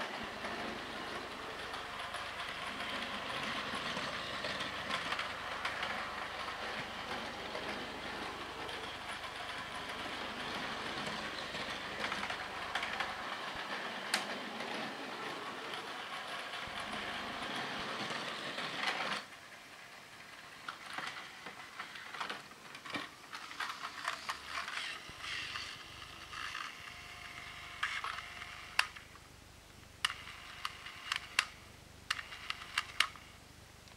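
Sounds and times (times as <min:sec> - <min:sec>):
toy train motor running on track: 0:00.0 - 0:29.1, 0:30.0 - 0:33.3
toy train clicking: 0:00.0 - 0:29.2, 0:30.0 - 0:33.9.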